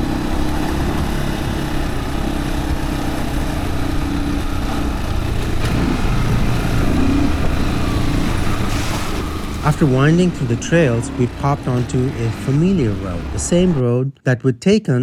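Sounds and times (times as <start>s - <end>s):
dirt bike engine running: 0.0s - 13.8s.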